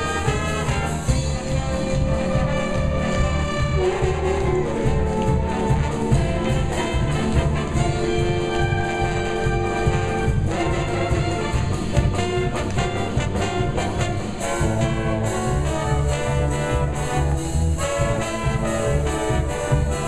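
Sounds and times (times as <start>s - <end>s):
big band dance music: 0.0s - 20.0s
brass section: 0.0s - 20.0s
steady bass: 0.0s - 20.0s.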